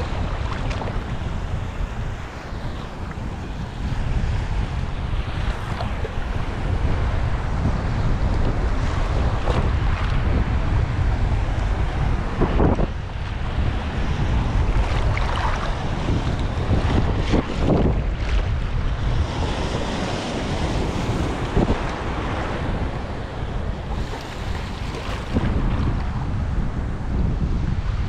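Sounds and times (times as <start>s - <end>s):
sea surf washing over reef: 0.0s - 28.0s
wind buffeting microphone: 0.0s - 28.0s.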